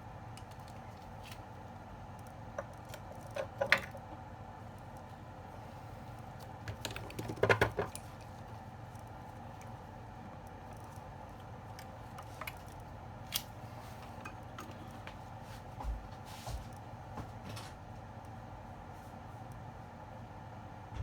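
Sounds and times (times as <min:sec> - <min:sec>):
steady faint hum: 0:00.0 - 0:21.0.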